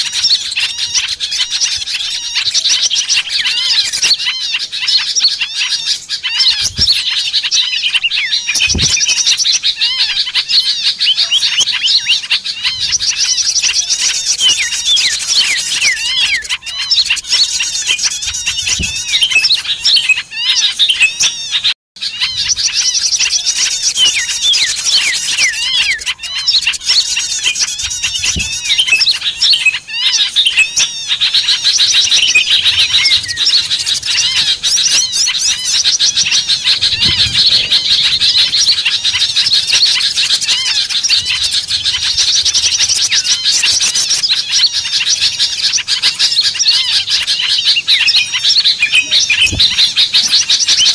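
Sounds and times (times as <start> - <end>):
songbirds chirping in chorus: 0.0 - 50.9.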